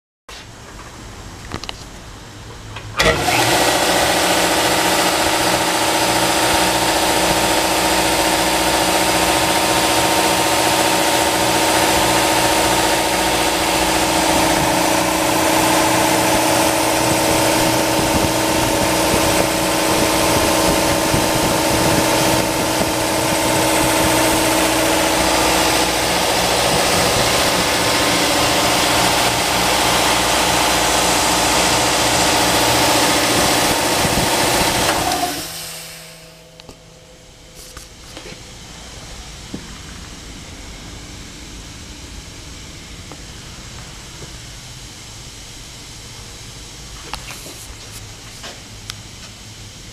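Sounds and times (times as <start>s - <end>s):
air compressor running: 2.9s - 49.9s.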